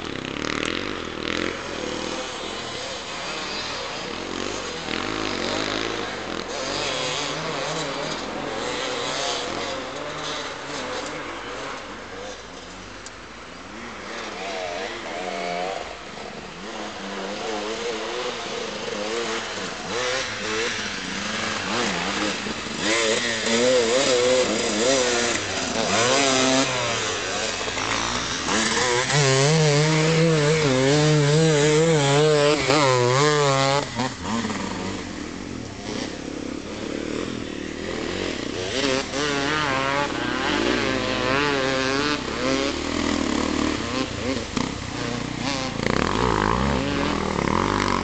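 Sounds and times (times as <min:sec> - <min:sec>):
motorcycle engine revving: 0:00.0 - 0:12.8, 0:13.7 - 0:48.0.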